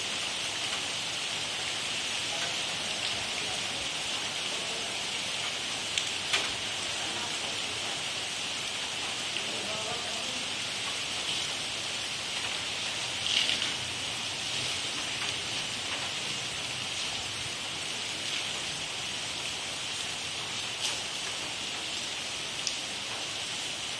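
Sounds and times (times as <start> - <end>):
rain taps: 0.0 - 23.9
steady rain falling: 0.0 - 23.9.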